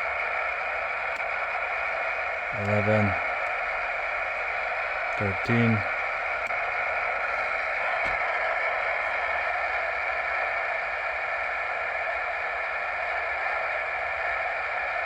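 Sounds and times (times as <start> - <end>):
radio static hiss: 0.0 - 14.8.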